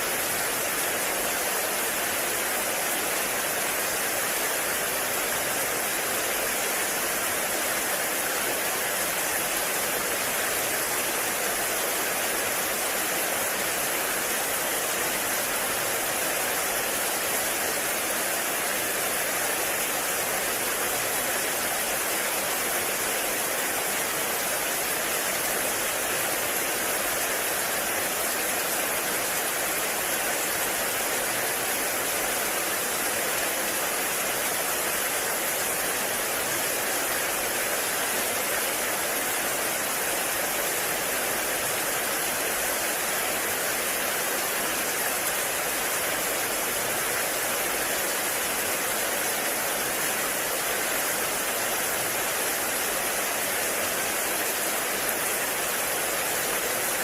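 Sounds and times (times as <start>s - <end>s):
heavy rain in a forest: 0.0s - 57.0s.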